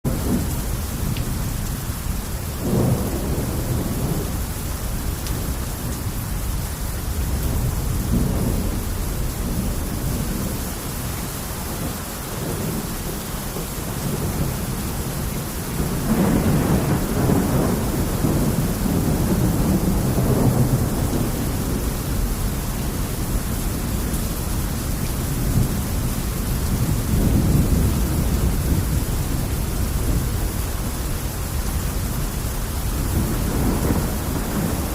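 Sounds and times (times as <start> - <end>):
rain falling: 0.0 - 34.9.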